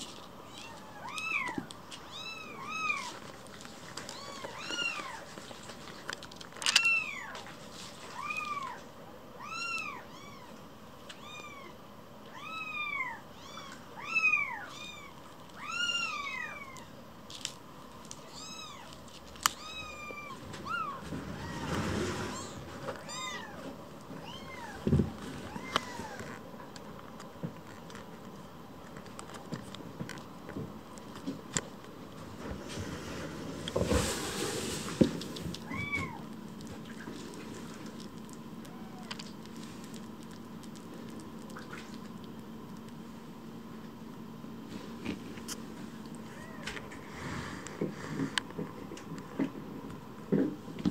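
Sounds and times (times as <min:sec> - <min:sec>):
rustling: 0:00.0 - 0:08.8, 0:14.4 - 0:50.9.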